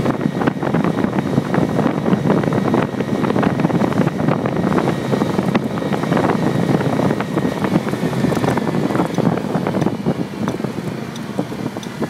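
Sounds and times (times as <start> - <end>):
moped engine running: 0.0 - 12.0
wind buffeting microphone: 0.0 - 12.0.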